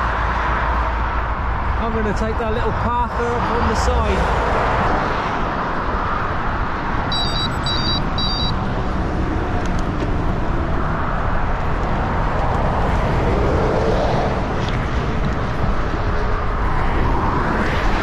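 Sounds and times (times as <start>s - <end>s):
passing traffic rush: 0.0s - 18.0s
wind rumbling on microphone: 0.0s - 18.0s
vehicle passing by: 3.1s - 18.0s.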